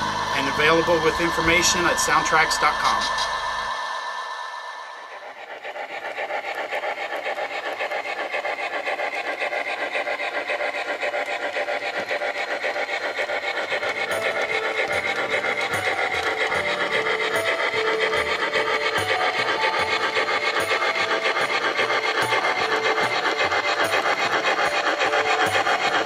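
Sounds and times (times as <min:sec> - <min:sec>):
model steam locomotive chuffing: 0:00.0 - 0:26.0.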